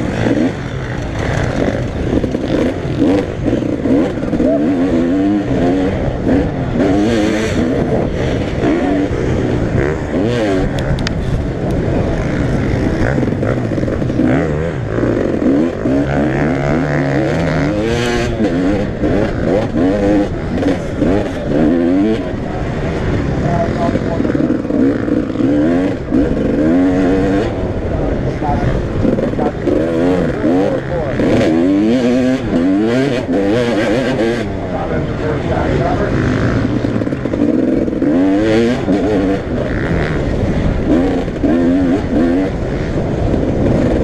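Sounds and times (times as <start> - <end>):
motocross bike engines revving: 0.0 - 44.0.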